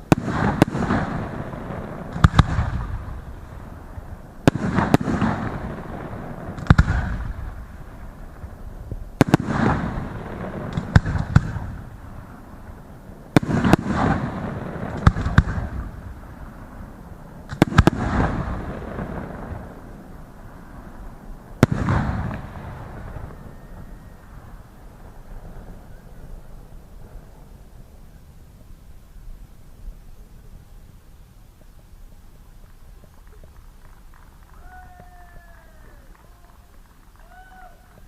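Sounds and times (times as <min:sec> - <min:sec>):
rolling echo rumble: 0:00.0 - 0:38.0.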